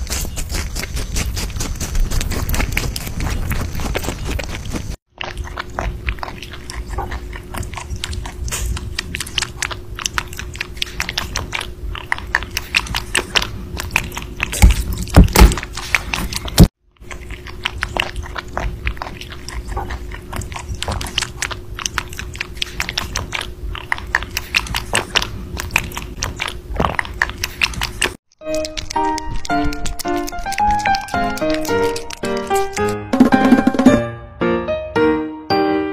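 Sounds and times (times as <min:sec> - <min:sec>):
rabbits chewing fruit: 0:00.0 - 0:33.0.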